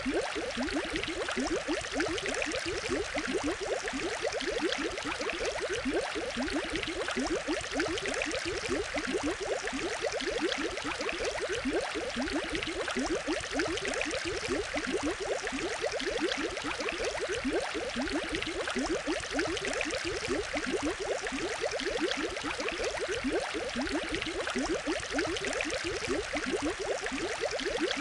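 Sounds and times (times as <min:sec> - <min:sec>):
aquarium air bubbles: 0:00.0 - 0:28.0.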